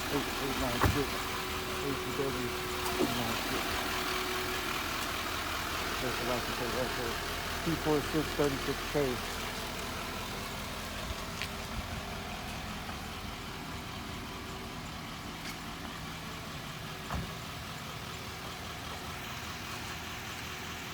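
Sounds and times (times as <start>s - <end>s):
vehicle engine idling: 0.0s - 20.9s.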